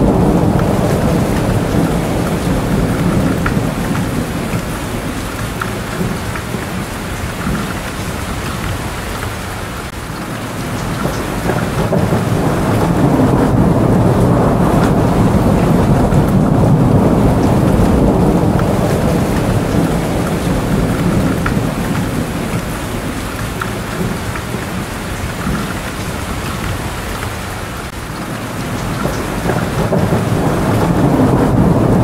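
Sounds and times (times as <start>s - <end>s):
low rolling thunder: 0.0s - 32.0s
steady rain: 0.0s - 32.0s.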